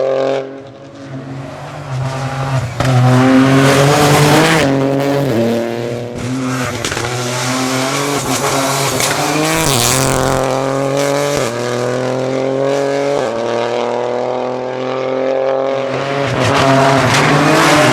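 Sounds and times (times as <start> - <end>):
rally car engine accelerating: 0.0 - 17.9.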